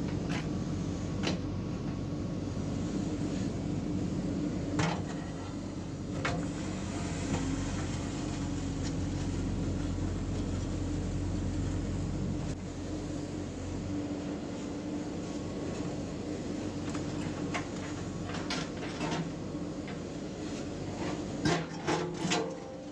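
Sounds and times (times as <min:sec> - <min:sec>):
diesel engine running: 0:00.0 - 0:21.4.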